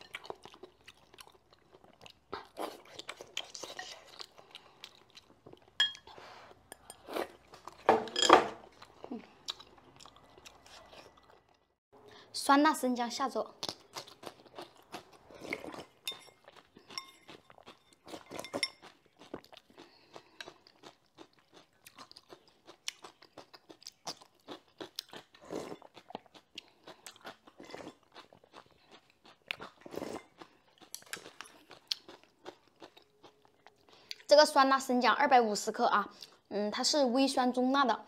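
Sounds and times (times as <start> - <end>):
person chewing crunchy food: 0.0 - 7.9, 8.6 - 11.8, 13.6 - 34.3.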